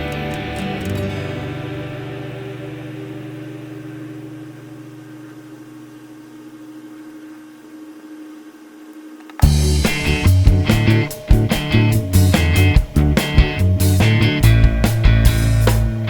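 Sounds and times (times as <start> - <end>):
held low music chord: 0.0 - 6.7, 9.4 - 16.0.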